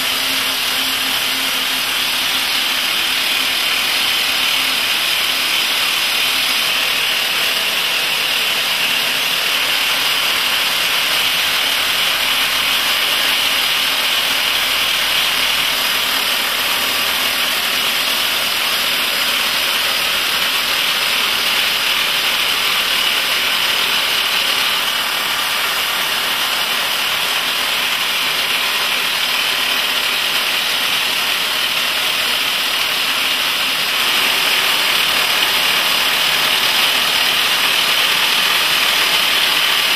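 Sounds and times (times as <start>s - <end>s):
rock drills percussion drilling: 0.0s - 39.9s.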